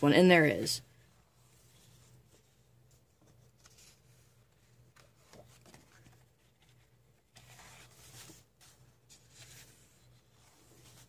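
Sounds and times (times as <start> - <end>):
low steady hum: 0.0 - 11.0
paper pages rustling: 1.4 - 11.0.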